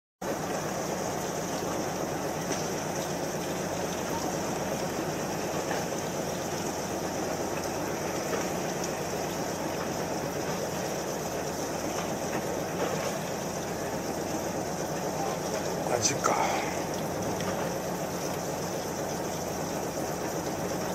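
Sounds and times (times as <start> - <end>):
boat engine running: 0.3 - 20.9.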